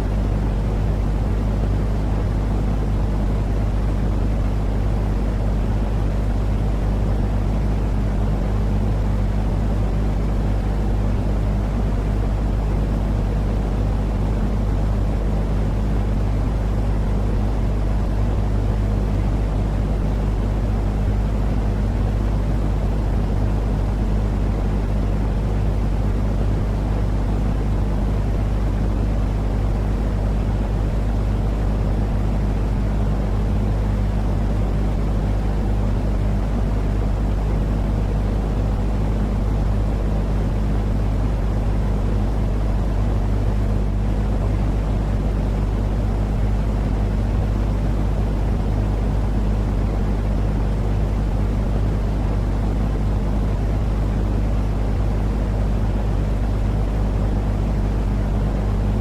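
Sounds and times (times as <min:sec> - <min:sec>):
low rumbling noise with hum: 0:00.0 - 0:59.0.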